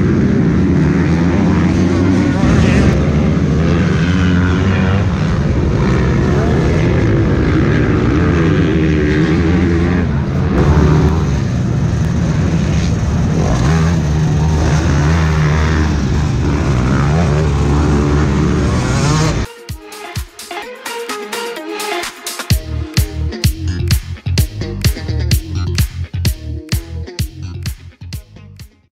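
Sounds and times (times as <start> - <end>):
motocross bike engines revving: 0.0 - 19.5, 22.6 - 28.0.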